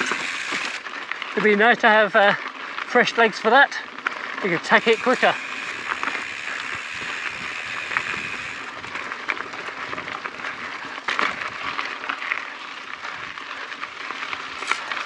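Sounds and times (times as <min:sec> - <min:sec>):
bike tyres crunching on gravel: 0:00.0 - 0:15.0
stones and bike rattling: 0:00.0 - 0:15.0.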